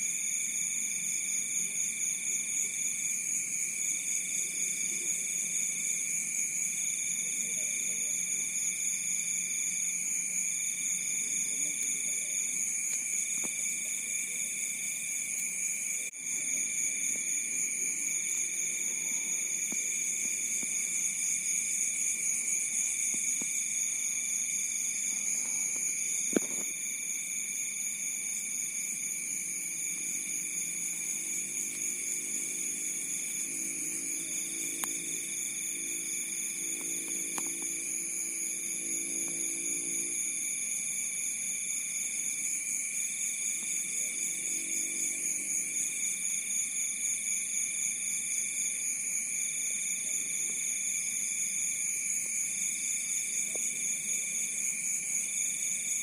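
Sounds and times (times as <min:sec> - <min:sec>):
crickets chirring: 0:00.0 - 0:56.0
high-pitched cricket singing: 0:00.0 - 0:56.0.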